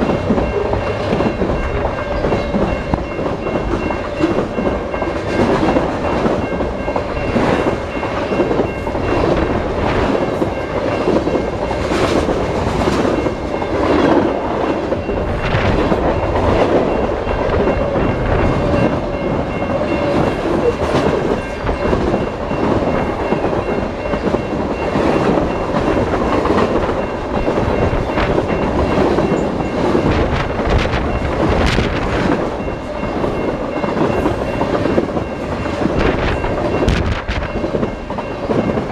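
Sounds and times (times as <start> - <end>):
train cars rattling: 0.0 - 38.9
train wheels rumbling on rails: 0.0 - 38.9.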